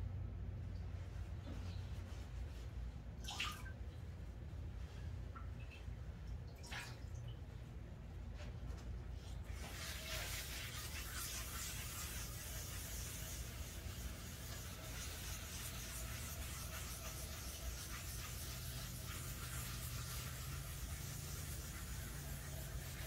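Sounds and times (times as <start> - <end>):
faint room hum: 0.0 - 23.0.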